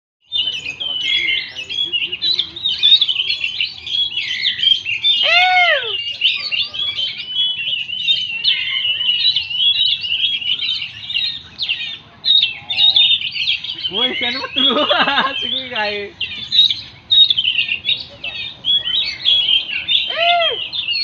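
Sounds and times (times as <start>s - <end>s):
bird singing warbling song: 0.2s - 21.0s
low-pitched bird call: 0.4s - 21.0s.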